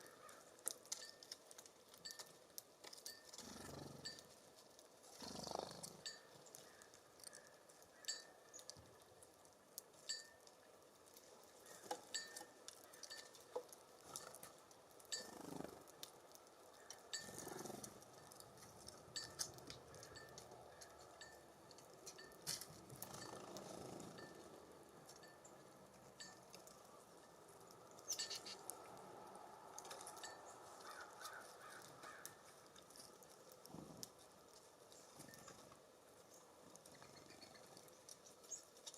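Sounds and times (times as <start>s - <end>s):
birds pecking and landing taps: 0.0s - 35.9s.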